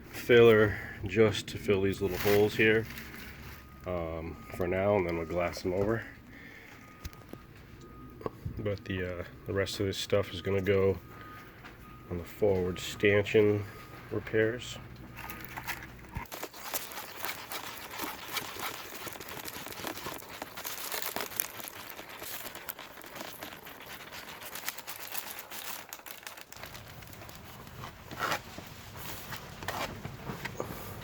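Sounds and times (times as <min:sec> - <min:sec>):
crinkling handling noise: 0:00.0 - 0:31.0.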